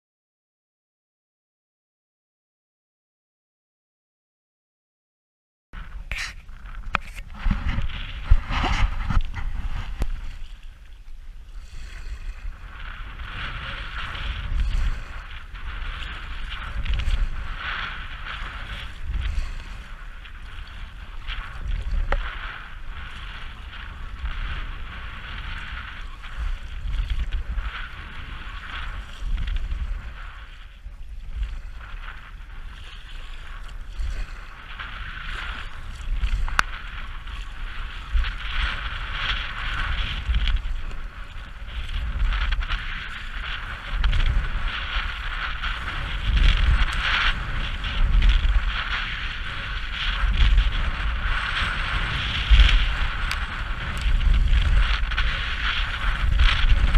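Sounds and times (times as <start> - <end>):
water splashing against kayak: 5.8 - 56.9
wind buffeting microphone: 5.8 - 56.9.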